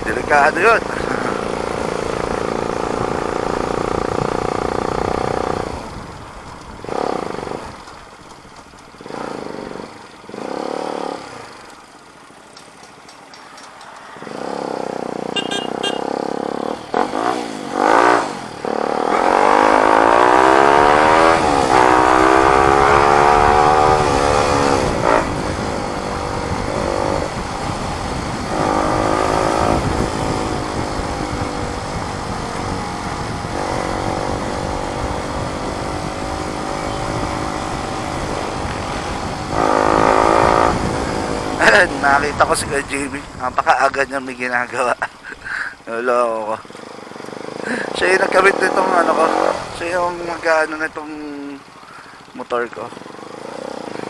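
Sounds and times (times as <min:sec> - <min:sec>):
motorcycle exhaust while riding: 0:00.0 - 0:44.2, 0:46.6 - 0:54.0.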